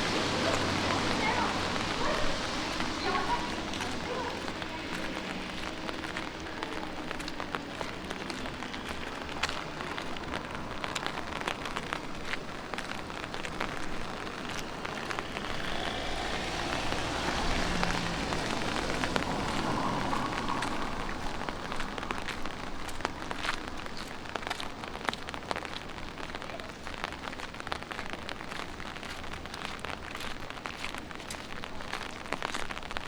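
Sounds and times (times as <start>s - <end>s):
light rain hissing: 0.0s - 30.1s
raindrops hitting close by: 0.0s - 33.0s.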